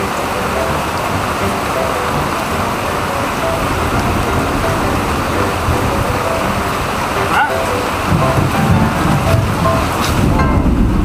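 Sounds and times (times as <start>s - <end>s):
rain on concrete: 0.0s - 11.0s.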